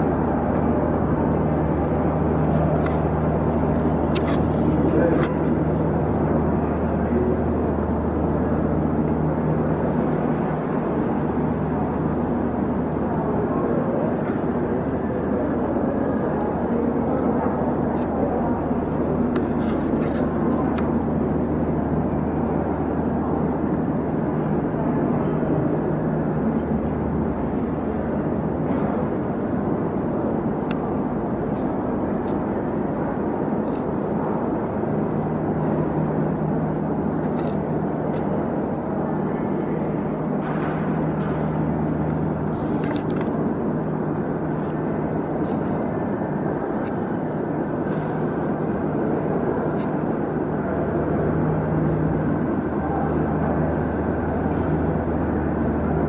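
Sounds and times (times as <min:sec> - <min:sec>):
train station ambience rumble: 0:00.0 - 0:56.0.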